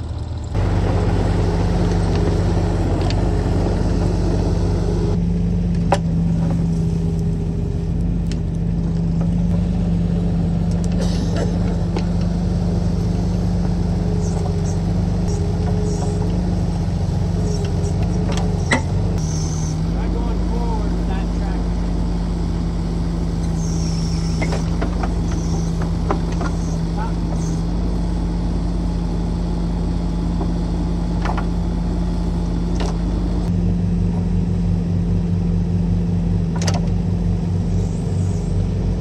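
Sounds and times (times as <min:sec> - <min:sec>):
heavy equipment engine running: 0:00.0 - 0:39.0.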